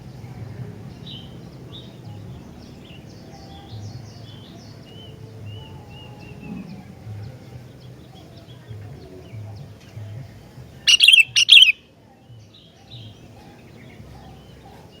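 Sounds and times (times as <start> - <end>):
bulbul singing: 0.0 - 15.0
faint bird chirping: 0.0 - 15.0.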